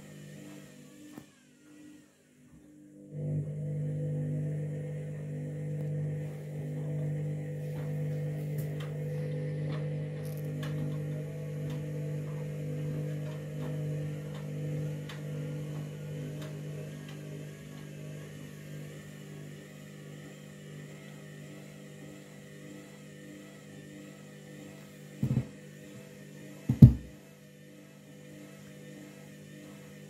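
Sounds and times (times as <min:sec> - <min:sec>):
washing machine motor humming: 0:00.0 - 0:30.0.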